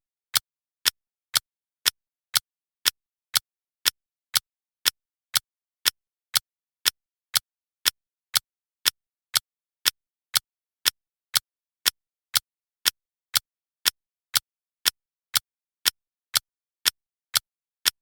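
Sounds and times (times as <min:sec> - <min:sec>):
clock ticking: 0:00.3 - 0:18.0.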